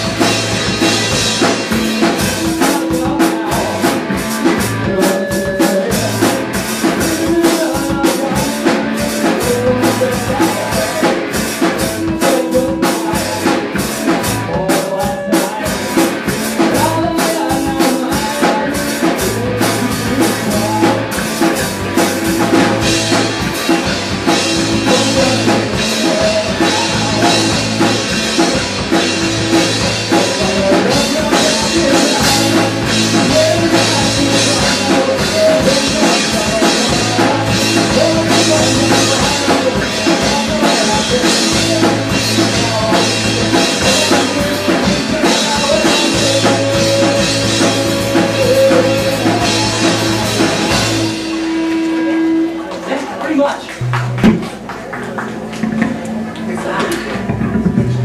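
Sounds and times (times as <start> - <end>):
person singing lead vocal: 0.0 - 52.7
drum kit: 0.0 - 52.9, 53.8 - 58.0
electric guitars: 0.0 - 58.0.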